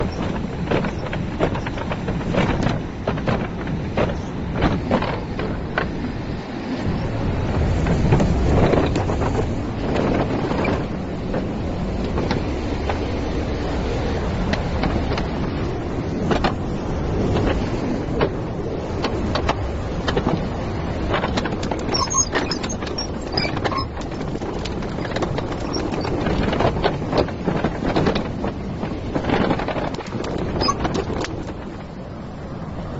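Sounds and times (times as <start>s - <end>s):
machine knocks and clatter: 0.0s - 6.1s, 6.8s - 13.2s, 14.4s - 18.4s, 19.0s - 32.0s.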